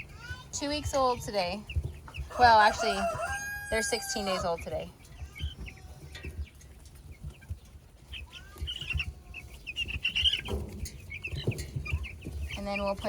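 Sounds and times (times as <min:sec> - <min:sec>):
chicks peeping: 0:00.0 - 0:13.0
chicks scratching and rustling: 0:00.0 - 0:13.0.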